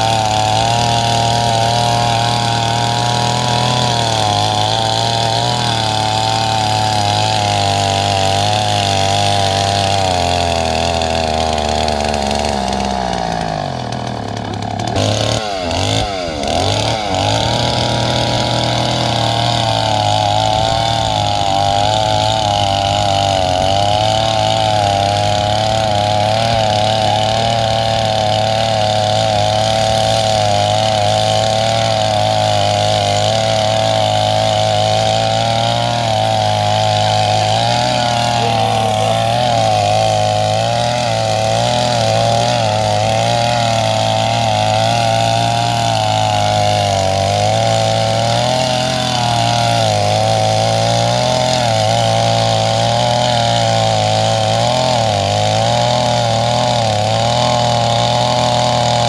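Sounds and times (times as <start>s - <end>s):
chainsaw cutting tree trunk: 0.0s - 59.0s.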